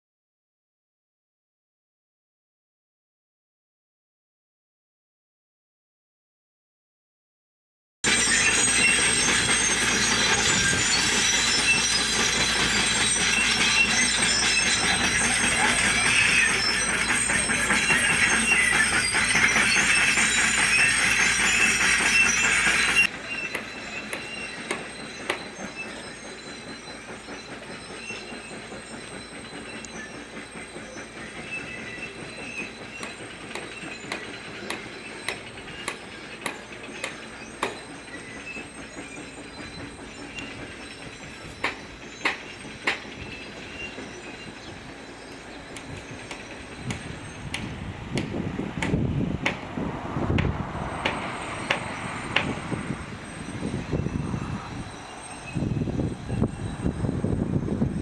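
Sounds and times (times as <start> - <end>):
excavator metallic squeal: 8.1 - 58.0.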